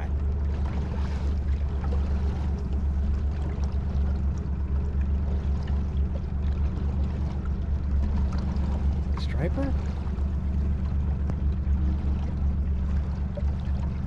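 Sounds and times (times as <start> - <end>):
boat motor droning: 0.0 - 14.0
water splashing along hull: 0.0 - 14.0.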